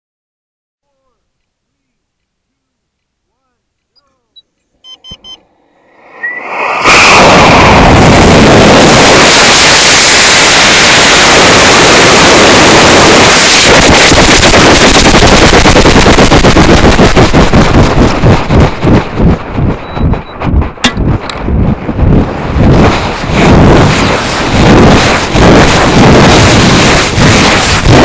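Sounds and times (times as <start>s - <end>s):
rocket motor roaring and crackling: 5.0s - 28.0s.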